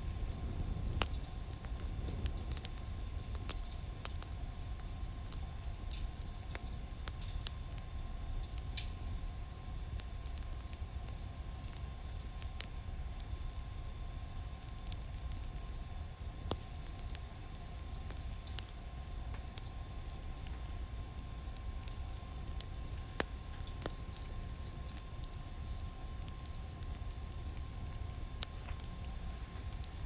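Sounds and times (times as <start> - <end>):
faint steady hum: 0.0 - 30.0
fire crackling and popping: 0.0 - 30.0
low steady rumble: 0.0 - 30.0.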